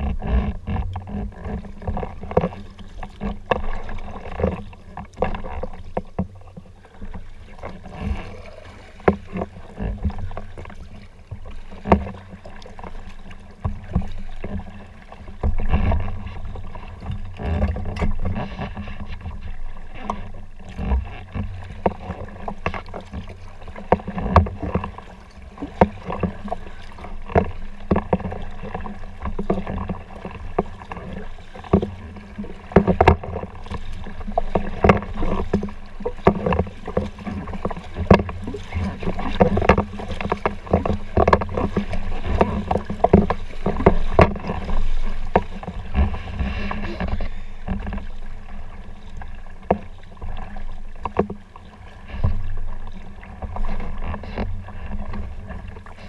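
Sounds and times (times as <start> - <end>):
paddle splashing water: 0.0 - 56.0.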